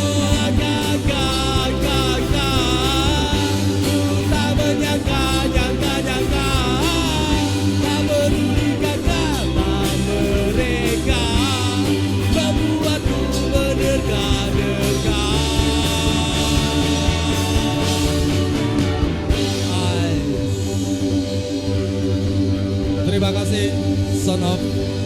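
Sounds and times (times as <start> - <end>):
lead singer singing: 0.0 - 22.1
rock band playing: 0.0 - 25.0.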